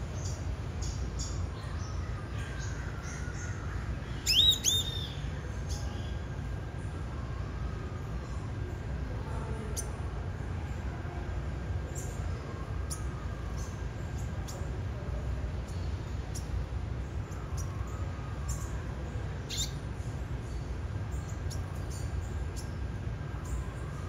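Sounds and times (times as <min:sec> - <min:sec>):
small birds chirping: 0:00.0 - 0:07.0, 0:11.7 - 0:24.0.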